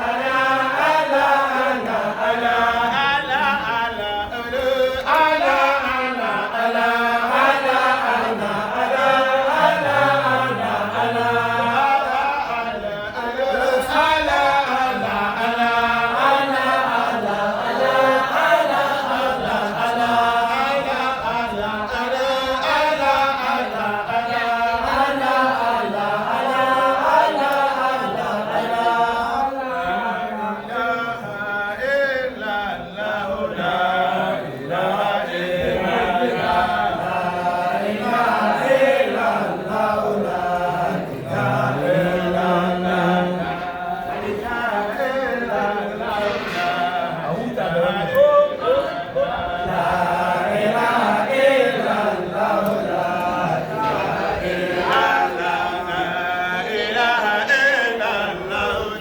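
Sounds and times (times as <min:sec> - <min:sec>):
group of voices chanting: 0:00.0 - 0:59.0.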